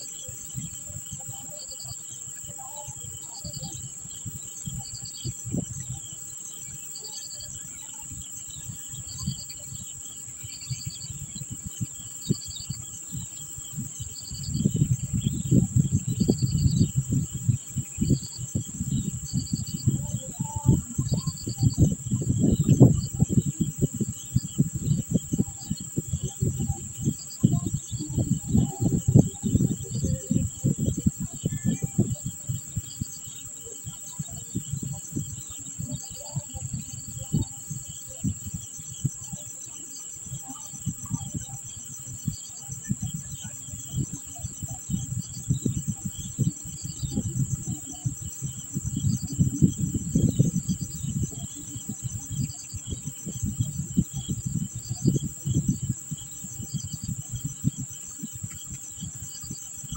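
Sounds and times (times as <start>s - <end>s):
cricket or cicada drone: 0.0s - 59.9s
insect chirp: 0.0s - 59.9s.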